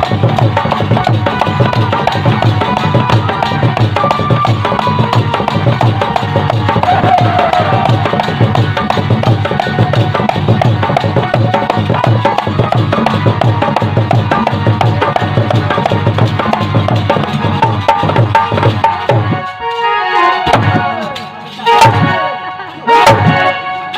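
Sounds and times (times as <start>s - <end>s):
fast hand-drum rhythm: 0.0s - 19.6s, 20.4s - 22.3s, 23.0s - 23.5s
folk melody: 0.0s - 23.9s.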